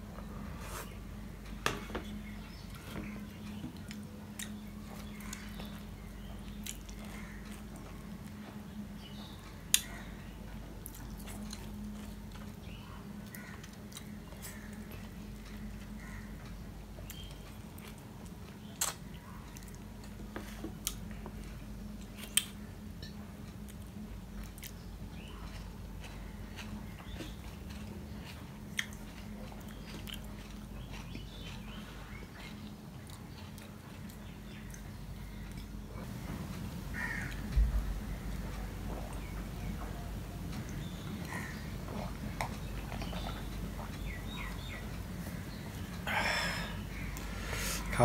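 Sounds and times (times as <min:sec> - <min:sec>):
low hum: 0:00.0 - 0:48.0
mouth eating and chewing: 0:00.3 - 0:48.0.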